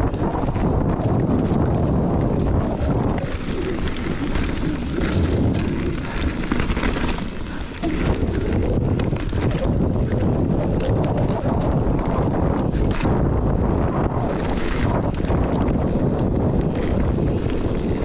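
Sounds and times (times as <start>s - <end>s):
tyres rolling on dirt: 0.0s - 13.3s, 14.0s - 18.0s
bike clicks and rattles: 0.0s - 18.0s
wind rushing over microphone: 0.0s - 18.0s.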